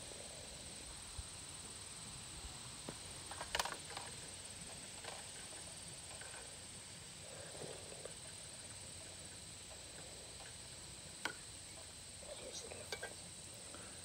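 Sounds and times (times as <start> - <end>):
faint high-pitched hiss: 0.0 - 14.0.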